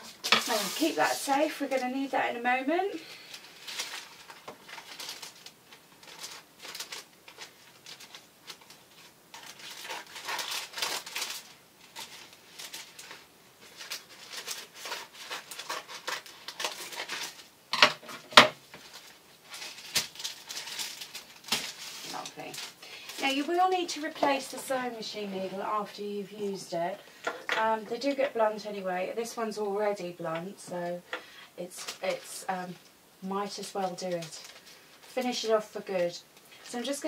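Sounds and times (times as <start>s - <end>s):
paper crinkling: 0.0s - 2.2s, 3.0s - 17.5s, 18.1s - 28.6s, 33.5s - 37.0s.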